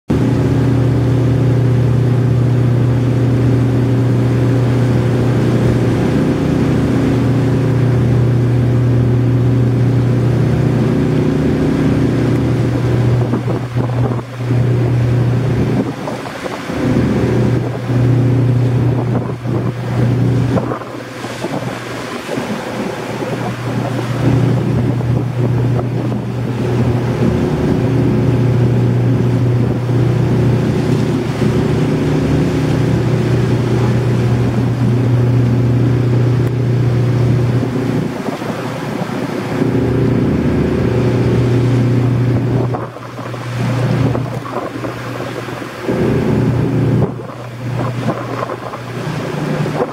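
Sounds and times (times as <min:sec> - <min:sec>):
rushing water: 0:00.1 - 0:49.9
ship engine drone: 0:00.1 - 0:49.9
wind buffeting microphone: 0:00.1 - 0:49.9.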